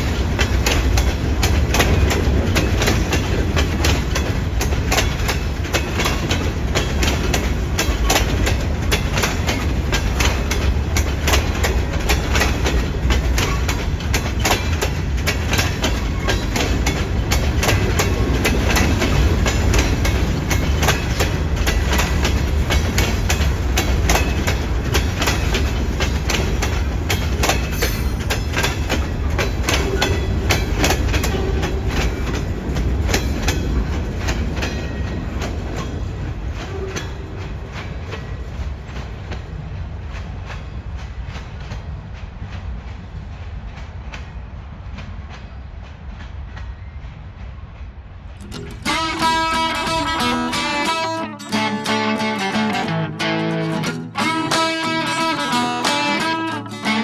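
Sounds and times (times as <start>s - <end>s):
wheels clicking over rail joints: 0.0s - 46.9s, 48.3s - 52.2s
freight train rumbling: 0.0s - 57.0s.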